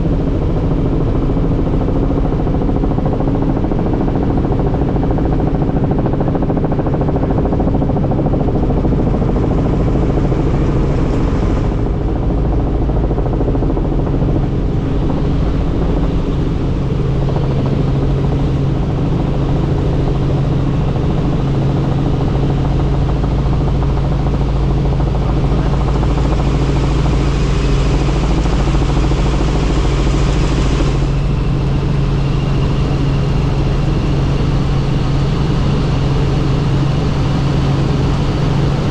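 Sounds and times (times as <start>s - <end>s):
helicopter turbine and rotor drone: 0.0s - 38.9s.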